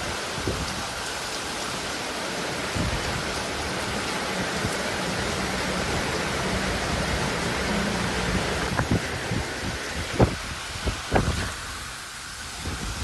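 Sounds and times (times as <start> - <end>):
heavy rain pouring: 0.0 - 13.0
wind rumbling on microphone: 0.0 - 13.0.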